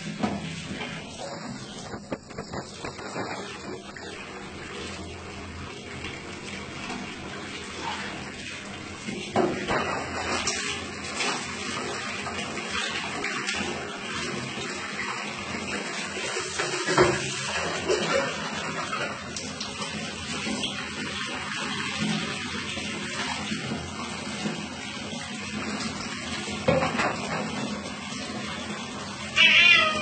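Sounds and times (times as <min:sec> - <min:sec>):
tap water running and splashing: 0:00.0 - 0:30.0.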